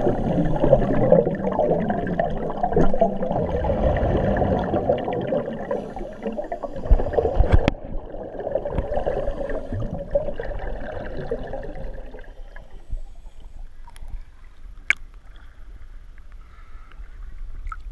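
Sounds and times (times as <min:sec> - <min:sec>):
underwater bubbling: 0:00.0 - 0:15.7
quiet hiss: 0:02.3 - 0:17.9.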